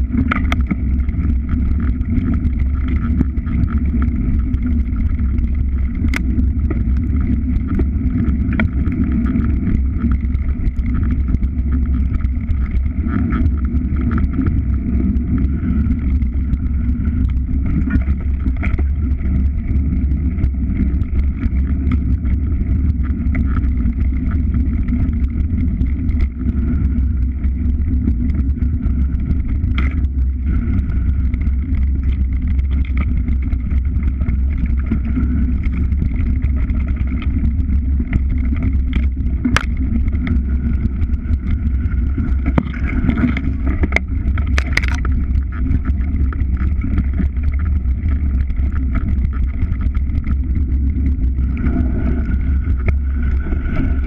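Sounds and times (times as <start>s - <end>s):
vehicle engine drone: 0.0s - 54.0s.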